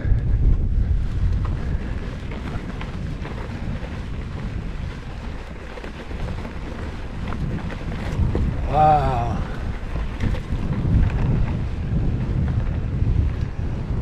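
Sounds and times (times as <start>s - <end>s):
bike ticks and rattles: 0.0s - 14.0s
bike tyres rolling on dirt: 0.0s - 14.0s
wind on microphone: 0.0s - 14.0s.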